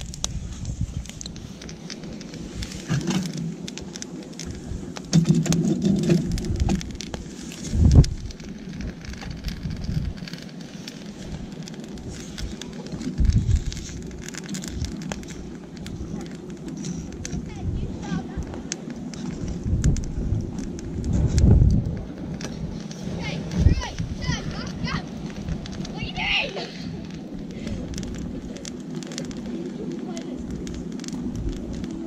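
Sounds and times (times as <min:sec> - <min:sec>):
campfire crackling: 0:00.0 - 0:32.0
low gusty rumble: 0:00.0 - 0:32.0.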